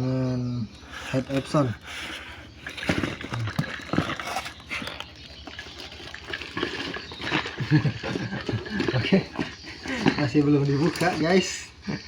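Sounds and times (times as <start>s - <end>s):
parcel knocking and rustling: 1.0s - 11.6s.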